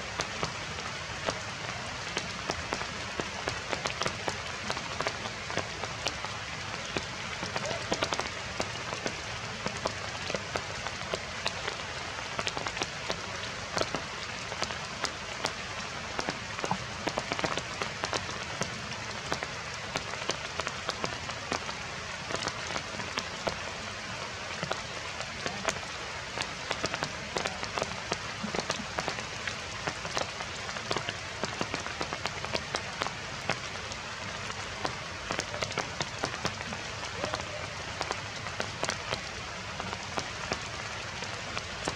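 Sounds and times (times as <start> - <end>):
heavy rain: 0.0 - 41.9
raindrops hitting: 0.0 - 41.9.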